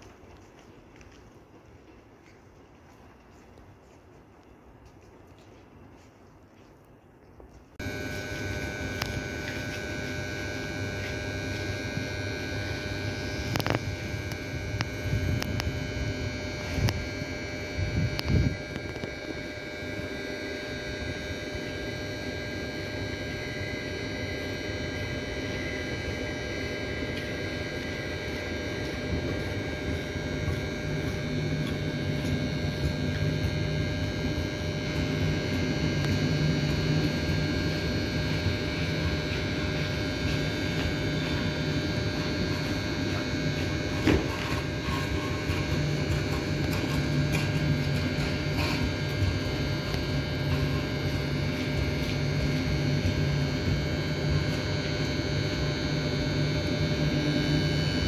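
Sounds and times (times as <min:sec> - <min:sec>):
electric train whine: 0:07.8 - 0:58.0
rumble of train wheels: 0:07.8 - 0:58.0.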